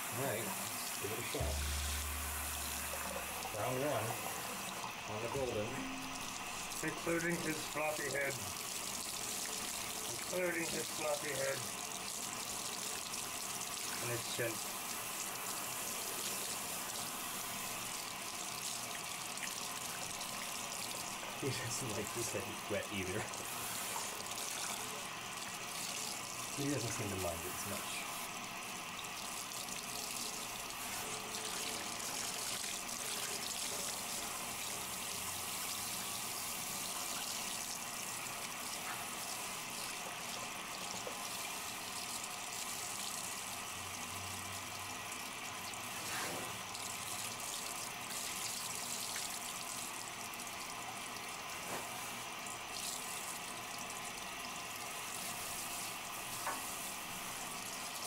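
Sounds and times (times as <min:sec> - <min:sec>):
shower sprayer running: 0:00.0 - 0:58.0
water splashing on dog and bathtub: 0:00.2 - 0:58.0.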